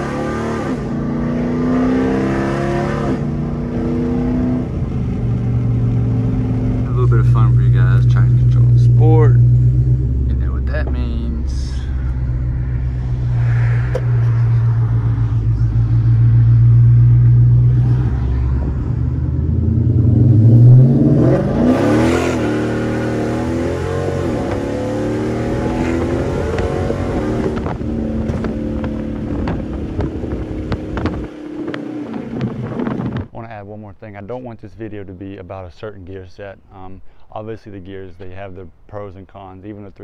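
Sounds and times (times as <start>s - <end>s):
car engine revving through upshifts: 0.0s - 33.0s.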